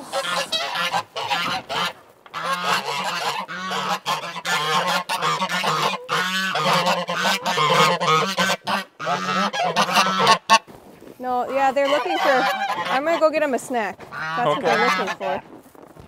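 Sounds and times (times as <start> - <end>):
waterfowl honking: 0.0 - 10.7, 11.4 - 15.4.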